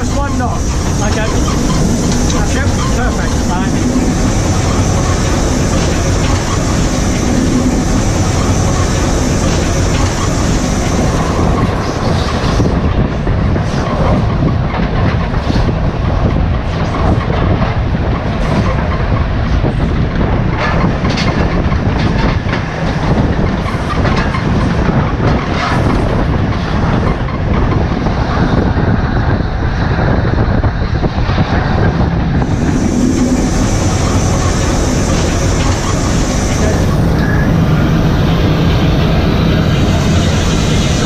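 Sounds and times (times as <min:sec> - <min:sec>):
steam locomotive running: 0:00.0 - 0:41.0
wheels clattering on track: 0:00.0 - 0:41.0.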